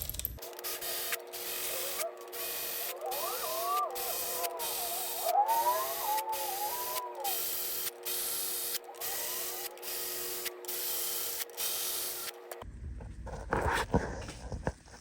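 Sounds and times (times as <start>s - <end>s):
electric ratchet spinning bolts: 0.0s - 12.6s.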